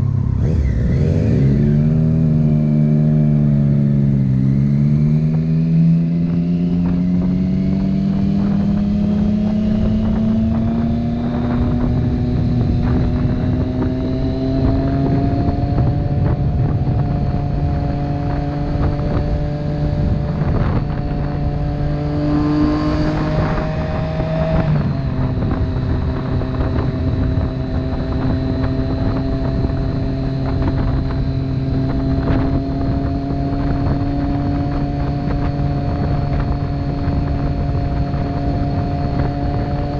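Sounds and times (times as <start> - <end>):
motorcycle engine accelerating: 0.0 - 39.9
wind noise rushing: 0.0 - 39.9.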